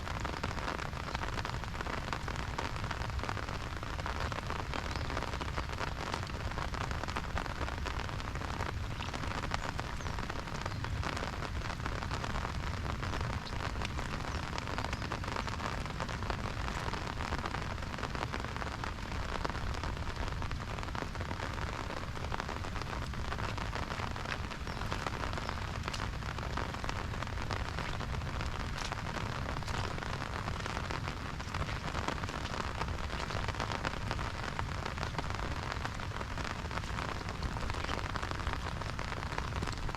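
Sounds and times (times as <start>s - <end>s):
raindrops ticking on umbrella: 0.0s - 39.9s
steady rain falling: 0.0s - 39.9s.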